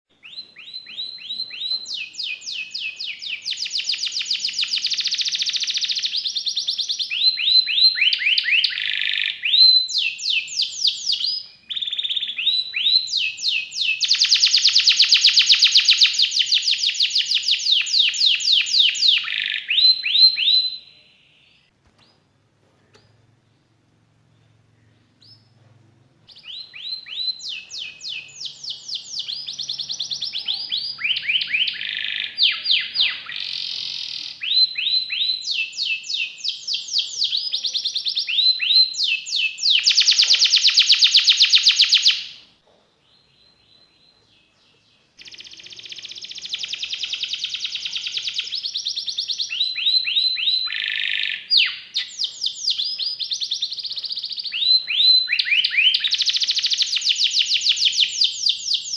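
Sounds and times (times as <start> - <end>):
canary singing: 0.1 - 22.2, 22.9 - 25.6, 26.2 - 42.5, 43.2 - 58.9.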